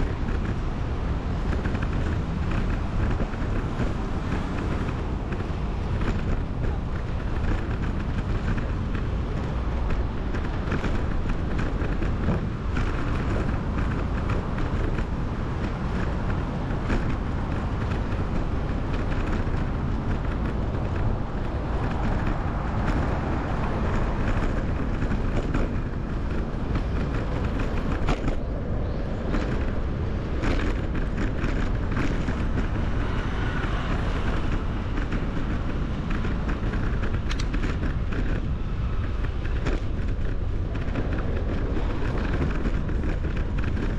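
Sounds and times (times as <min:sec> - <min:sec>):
bicycle road noise: 0:00.0 - 0:43.9
traffic: 0:00.0 - 0:43.9
wind buffeting microphone: 0:00.0 - 0:43.9.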